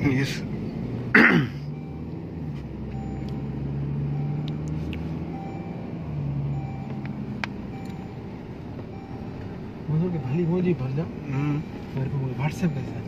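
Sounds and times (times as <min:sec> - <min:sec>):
car engine hum and road noise: 0:00.0 - 0:13.0.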